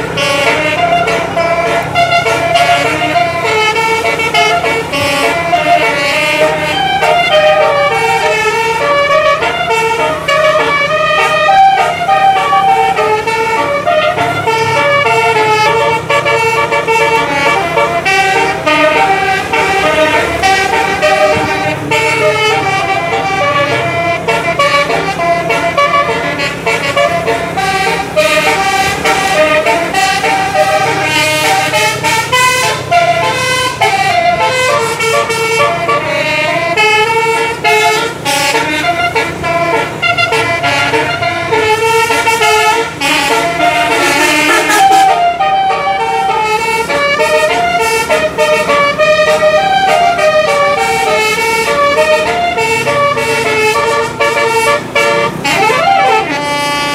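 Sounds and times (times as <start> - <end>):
bus engine running: 0.0 - 56.9
musical air horn melody: 0.0 - 56.9.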